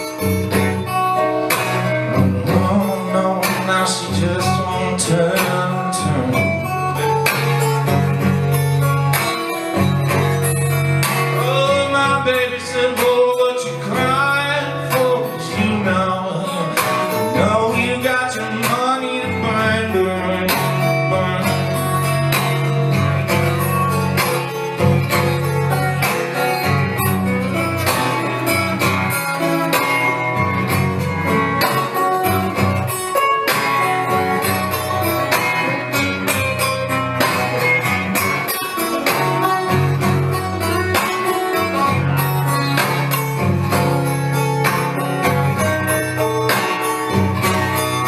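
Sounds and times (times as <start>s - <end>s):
acoustic guitar playing country blues: 0.0s - 48.0s.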